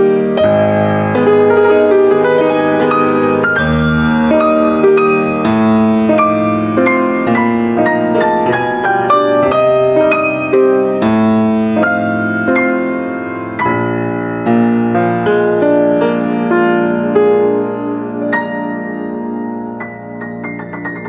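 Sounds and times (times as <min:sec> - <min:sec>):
gentle solo piano melody: 0:00.0 - 0:21.0.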